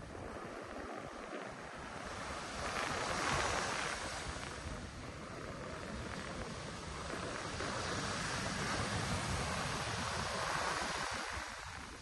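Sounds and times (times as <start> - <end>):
ocean surf washing in: 0.0 - 12.0
wind noise on microphone: 0.0 - 12.0.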